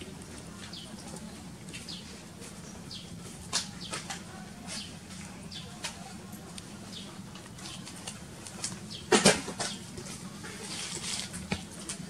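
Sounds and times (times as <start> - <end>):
birds chirping: 0.1 - 10.0.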